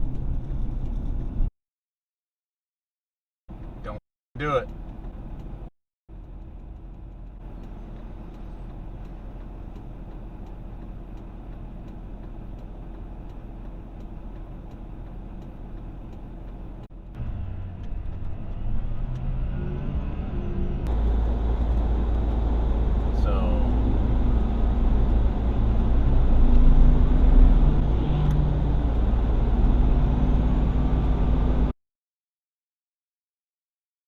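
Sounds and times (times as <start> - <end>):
car engine and tyre noise: 0.0 - 1.5, 3.5 - 31.7
deep rumble: 0.0 - 1.5, 4.7 - 31.7.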